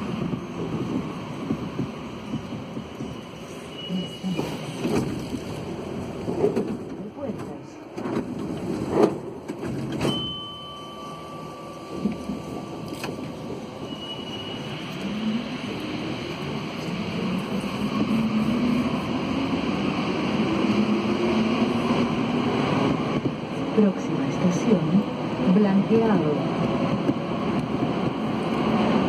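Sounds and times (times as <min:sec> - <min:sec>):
train doors shutting: 0:00.0 - 0:23.5.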